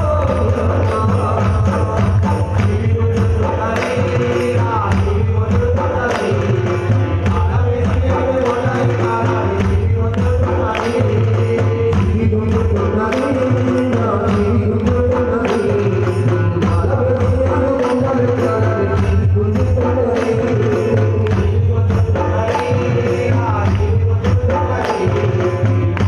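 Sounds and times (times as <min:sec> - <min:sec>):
hand percussion and jingles: 0:00.0 - 0:26.0.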